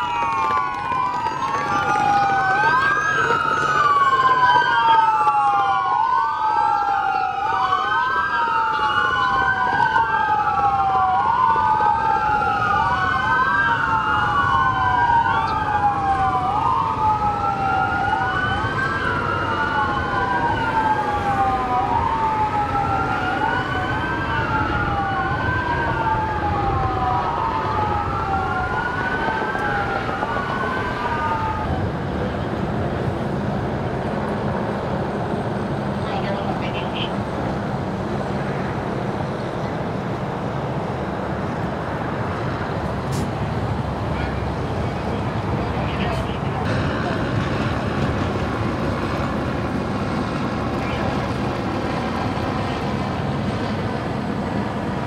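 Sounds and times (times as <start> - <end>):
low rumble of traffic: 0.0 - 55.0
police sirens wailing: 0.0 - 55.0.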